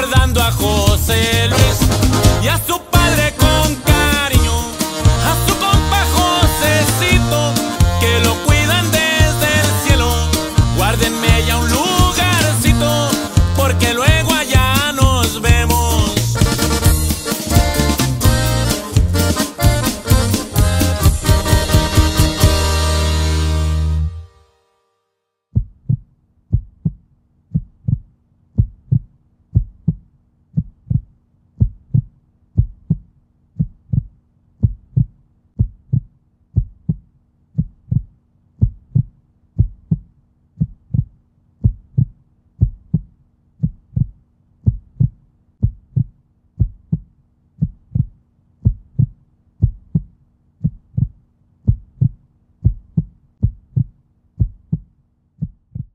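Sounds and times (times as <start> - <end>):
heartbeat thumps: 0.0 - 22.8, 25.6 - 55.9.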